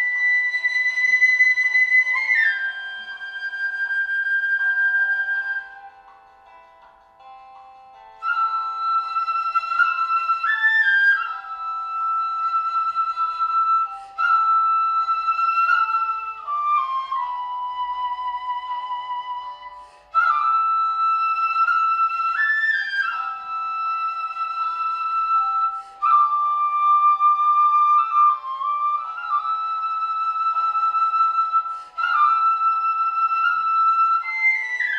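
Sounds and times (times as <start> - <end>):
bamboo flute melody: 0.0 - 34.9.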